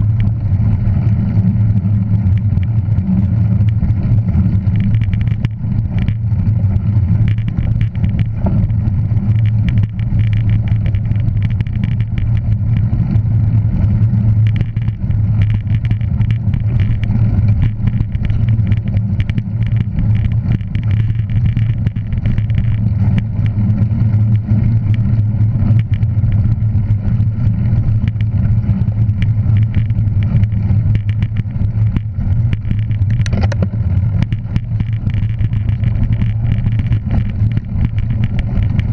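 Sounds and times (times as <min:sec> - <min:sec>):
vehicle engine drone: 0:00.0 - 0:38.9.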